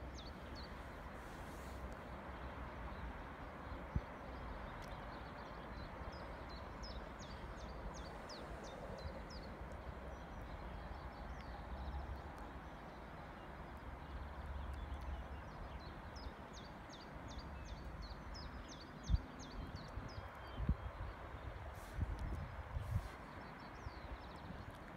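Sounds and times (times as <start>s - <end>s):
outdoor background noise: 0.0s - 24.9s.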